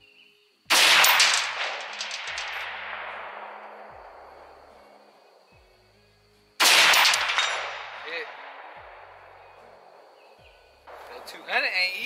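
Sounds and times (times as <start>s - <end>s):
rifle shot crack: 0.7s - 5.4s, 6.6s - 12.0s
rolling echo: 0.7s - 12.0s.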